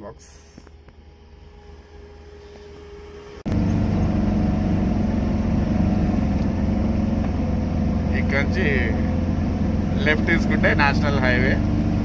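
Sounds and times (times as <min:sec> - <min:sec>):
road noise: 0:00.0 - 0:12.0
vehicle engine drone: 0:00.2 - 0:12.0.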